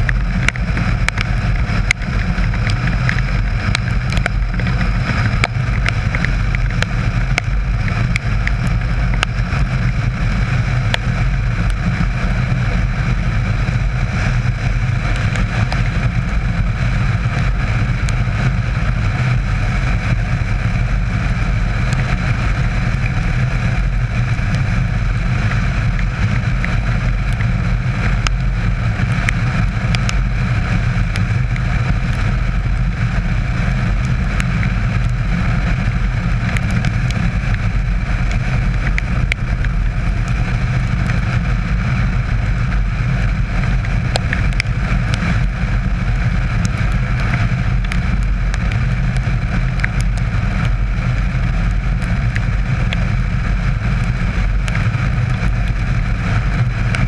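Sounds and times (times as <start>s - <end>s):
rain ticks: 0.0s - 12.2s, 12.8s - 57.0s
motorcycle engine running: 0.0s - 57.0s
wind rush: 0.0s - 57.0s.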